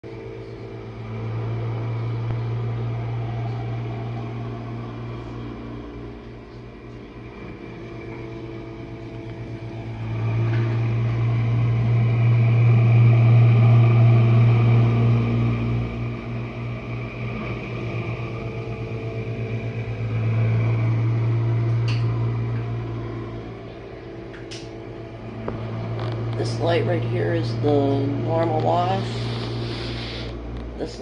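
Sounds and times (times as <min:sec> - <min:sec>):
dishwasher running: 0:00.0 - 0:31.0.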